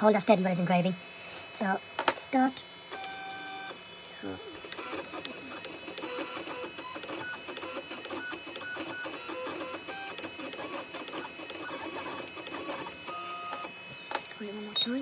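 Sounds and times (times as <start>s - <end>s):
engraving machine motors whirring: 1.5s - 15.0s.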